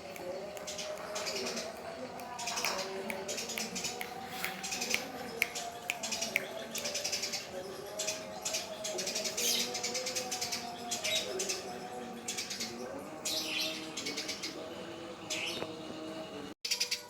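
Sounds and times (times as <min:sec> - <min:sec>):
sparrow chirping song: 0:00.0 - 0:17.0.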